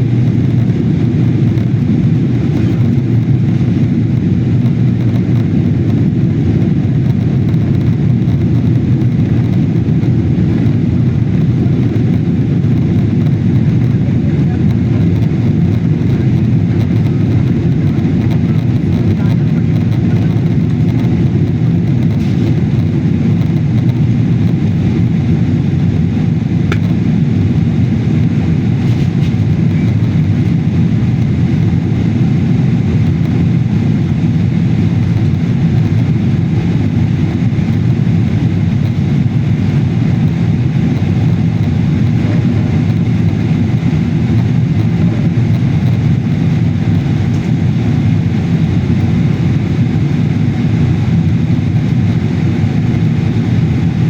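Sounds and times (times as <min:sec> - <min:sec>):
jet airliner cabin drone: 0:00.0 - 0:54.0.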